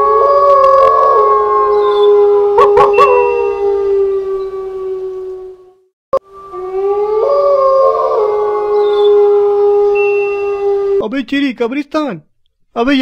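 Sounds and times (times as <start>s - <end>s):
dogs howling in chorus: 0.0s - 11.0s.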